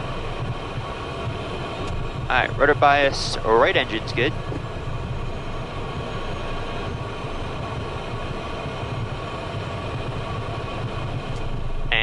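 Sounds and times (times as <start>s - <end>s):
faint engine whine: 0.0s - 12.0s
jet engines rumbling: 0.0s - 12.0s.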